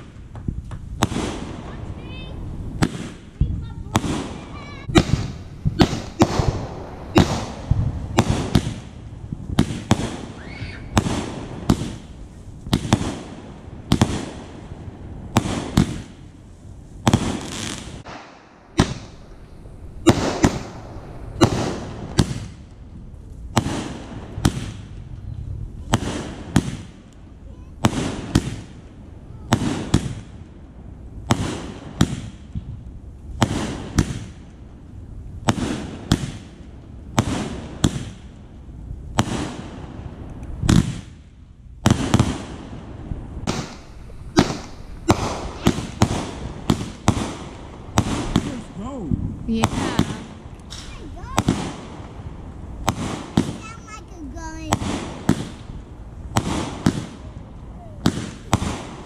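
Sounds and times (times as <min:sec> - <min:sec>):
fireworks popping: 0:00.0 - 0:59.0.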